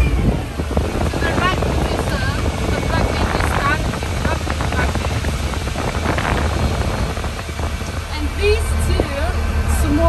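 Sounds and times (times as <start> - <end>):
diesel engine low drone: 0.0 - 10.0.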